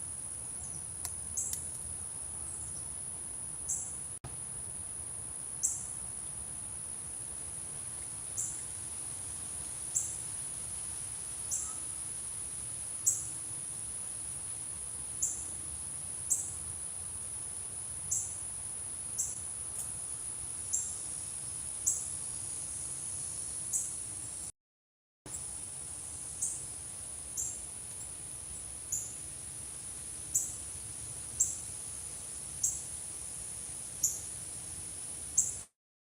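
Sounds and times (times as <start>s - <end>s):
high-pitched insect trill: 0.0s - 24.5s, 25.3s - 35.7s.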